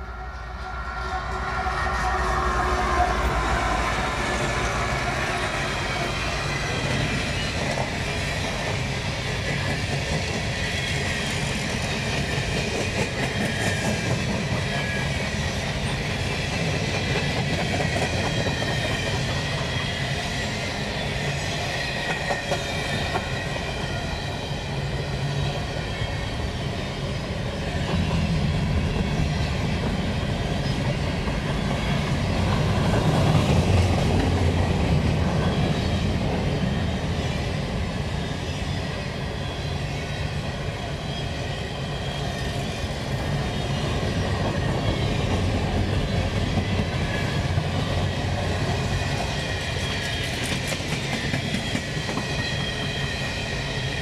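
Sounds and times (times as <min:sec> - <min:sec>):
diesel locomotive passing: 0:00.0 - 0:54.0
train wheels clacking on rails: 0:01.1 - 0:54.0.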